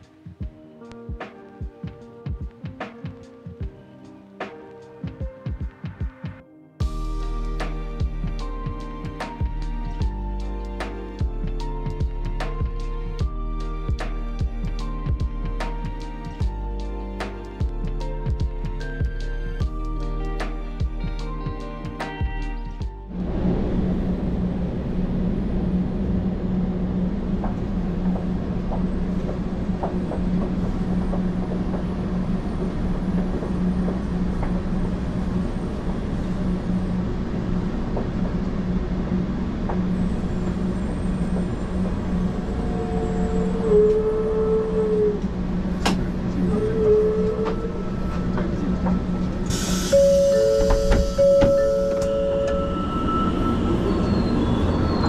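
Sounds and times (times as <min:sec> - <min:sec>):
train interior rumble and hum: 0:06.8 - 0:55.0.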